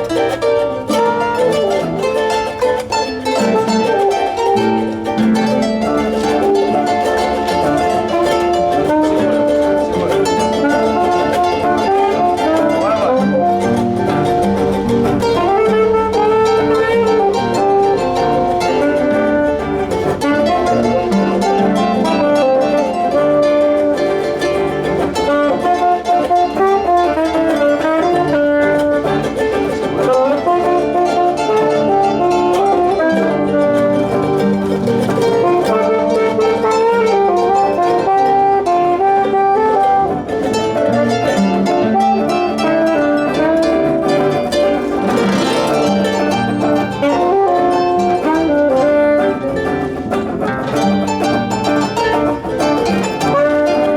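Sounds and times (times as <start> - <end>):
instrumental music: 0.0 - 53.9.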